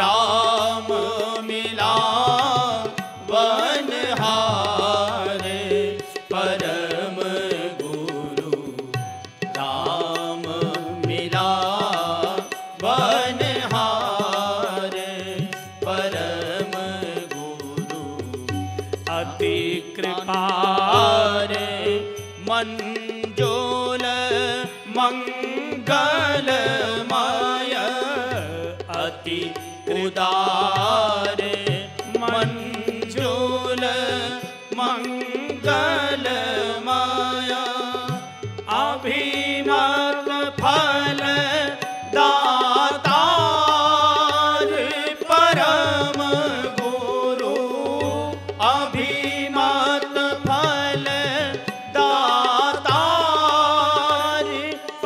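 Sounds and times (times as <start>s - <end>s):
harmonium: 0.0s - 55.0s
man singing: 0.0s - 55.0s
tabla: 0.0s - 55.0s.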